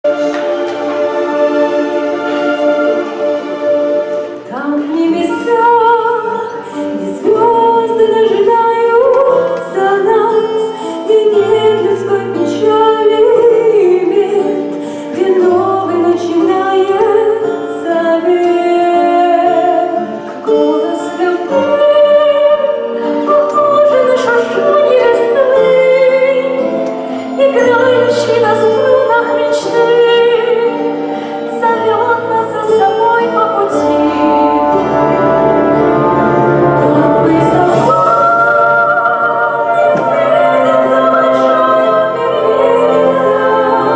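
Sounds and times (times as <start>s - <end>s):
instrumental backing: 0.0s - 43.9s
woman singing: 4.4s - 43.9s.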